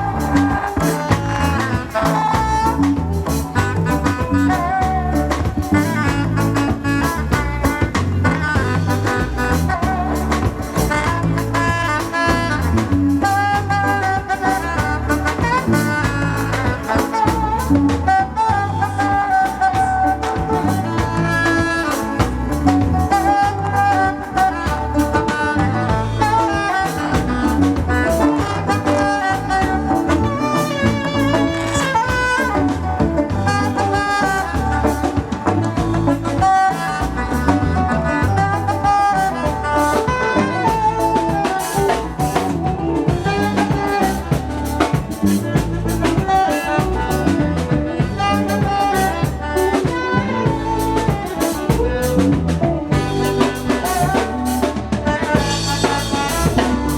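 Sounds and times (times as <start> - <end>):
drums keeping steady beat: 0.0 - 56.9
live band instrumental melody: 0.0 - 56.9.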